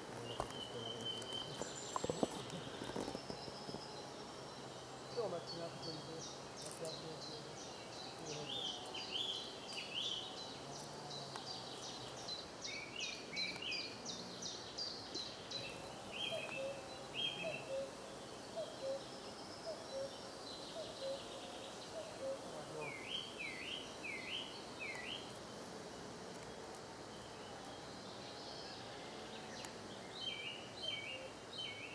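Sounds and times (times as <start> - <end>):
outdoor background noise: 0.0 - 31.9
songbirds singing and calling: 0.0 - 31.9.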